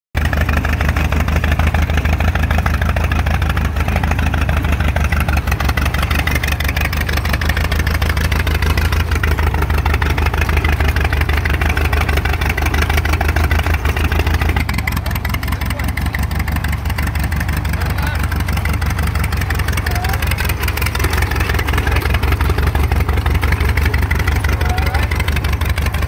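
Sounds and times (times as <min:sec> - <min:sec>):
tractor engine running: 0:00.2 - 0:26.0.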